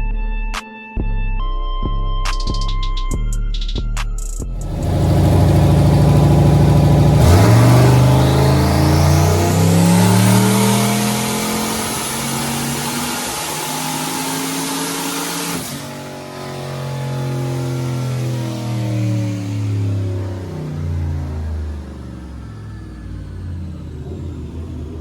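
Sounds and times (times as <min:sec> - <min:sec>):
high whine: 0:04.4 - 0:25.0
engine revving at full throttle: 0:04.5 - 0:25.0.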